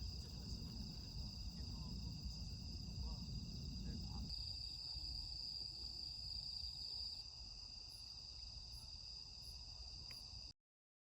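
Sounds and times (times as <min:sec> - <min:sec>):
crickets chirping: 0:00.0 - 0:10.5.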